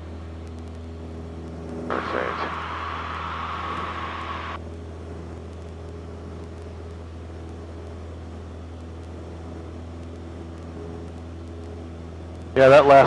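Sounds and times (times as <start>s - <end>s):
airplane engine and propeller droning: 0.0s - 13.0s.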